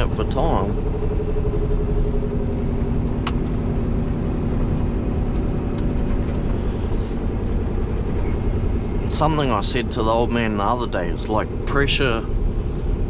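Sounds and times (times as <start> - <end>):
diesel engine drone in cab: 0.0 - 13.0
road noise: 0.0 - 13.0.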